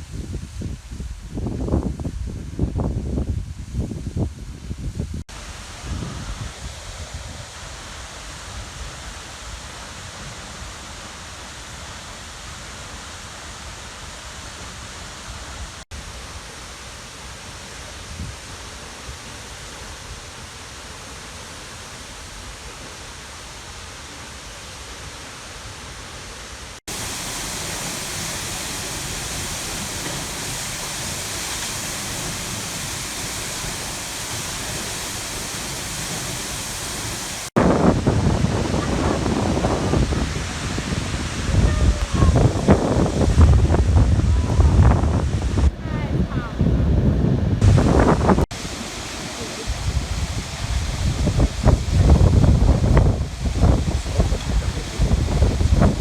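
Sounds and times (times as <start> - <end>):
waterfall roaring: 5.3 - 56.0.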